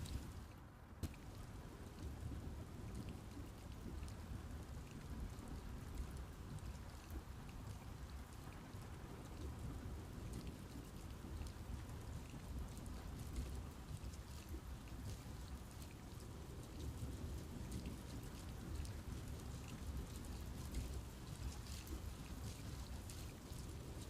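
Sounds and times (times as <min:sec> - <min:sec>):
rain falling on leaves: 0:00.0 - 0:24.0.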